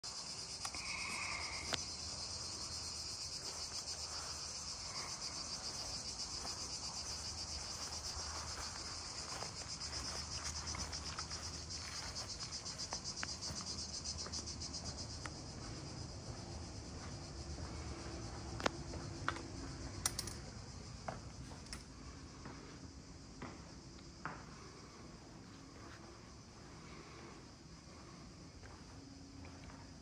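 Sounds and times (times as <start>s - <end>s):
cicadas singing: 0.0s - 30.0s.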